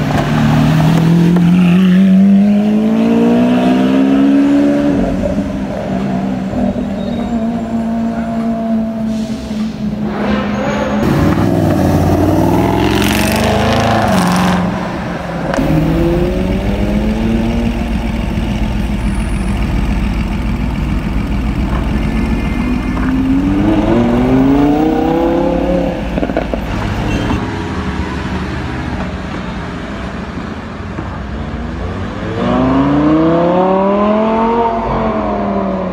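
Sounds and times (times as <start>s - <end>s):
sports car engines accelerating: 0.0s - 9.1s, 10.9s - 27.4s, 31.2s - 35.9s.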